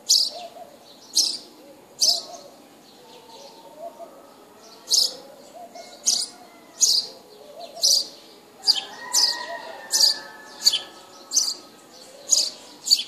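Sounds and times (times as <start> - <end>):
small birds sharp chirps: 0.0 - 2.6, 4.7 - 13.0.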